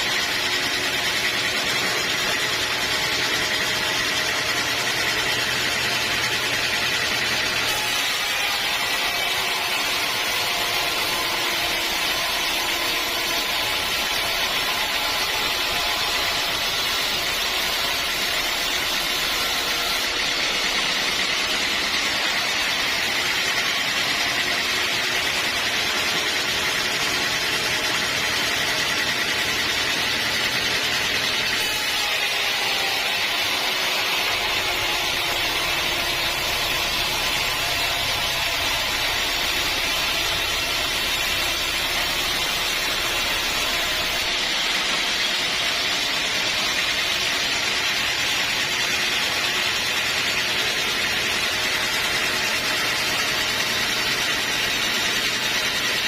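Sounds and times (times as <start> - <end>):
band sawmill drone: 0.0 - 56.0.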